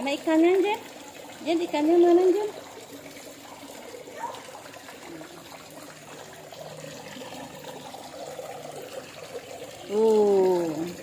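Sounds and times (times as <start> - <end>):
water trickling into pond: 0.0 - 11.0.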